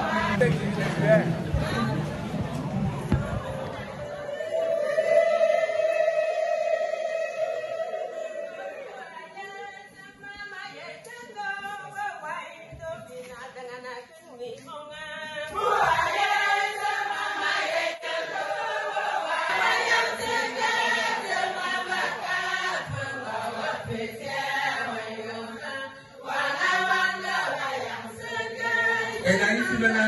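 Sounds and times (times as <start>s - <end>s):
group singing chant-like song: 0.0s - 2.0s, 2.9s - 12.2s, 15.1s - 30.0s.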